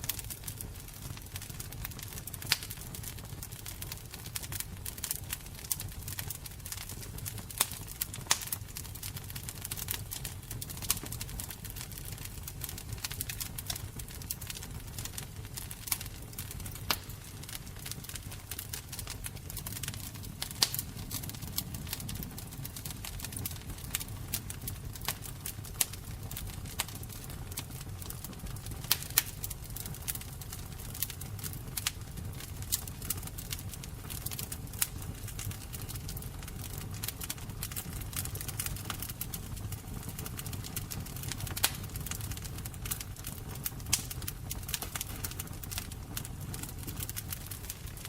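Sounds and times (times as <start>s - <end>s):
fire crackling and popping: 0.0s - 48.0s
low rumble of burning: 0.0s - 48.0s.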